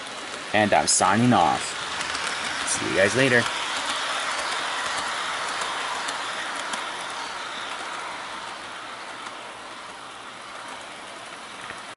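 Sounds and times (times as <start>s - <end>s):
model train wheels and motors whirring: 0.0s - 11.9s.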